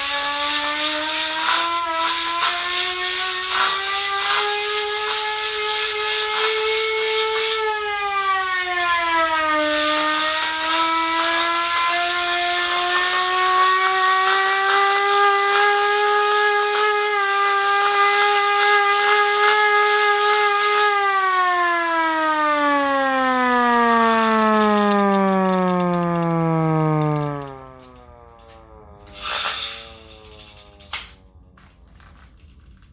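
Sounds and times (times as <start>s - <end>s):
hand-cranked siren wailing: 0.0s - 31.5s.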